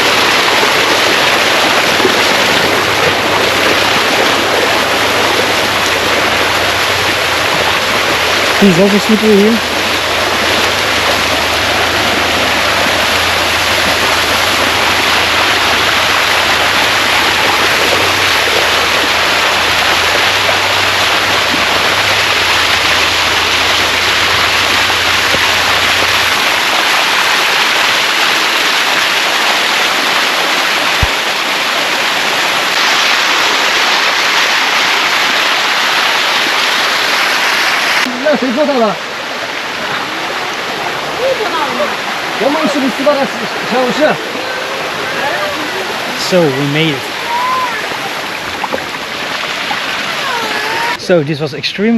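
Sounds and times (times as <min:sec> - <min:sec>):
water rushing down a waterfall: 0:00.0 - 0:51.9.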